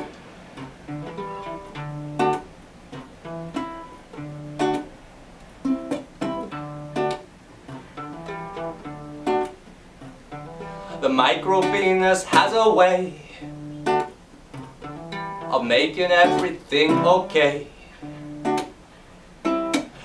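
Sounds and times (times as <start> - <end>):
solo guitar strumming and picking: 0.0 - 20.0.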